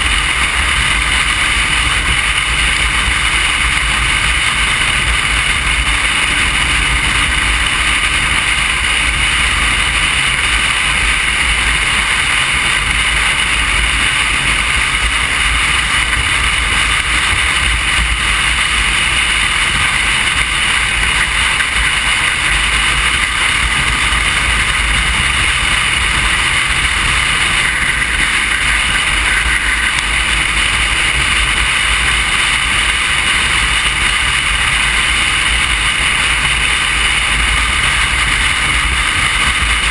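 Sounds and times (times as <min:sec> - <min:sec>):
motorcycle engine: 0:00.0 - 0:39.9
road noise: 0:00.0 - 0:39.9
wind rush on microphone: 0:00.0 - 0:39.9.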